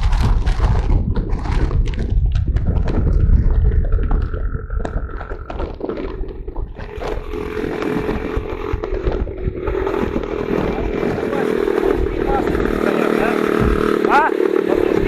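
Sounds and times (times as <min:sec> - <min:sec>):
engine knocks: 0:00.0 - 0:15.0
motorcycle engine running: 0:00.0 - 0:15.0.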